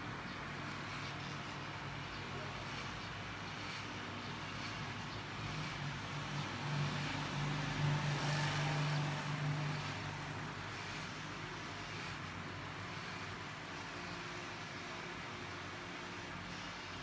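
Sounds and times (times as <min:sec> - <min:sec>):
electric hair clippers buzzing: 0:02.6 - 0:17.0.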